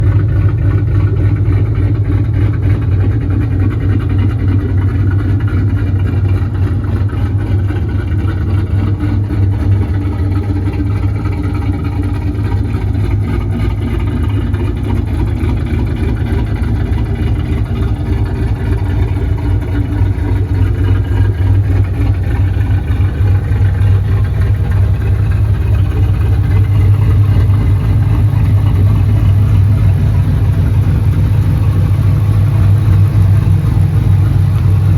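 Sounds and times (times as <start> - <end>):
car engine idling with lope: 0.0 - 34.9.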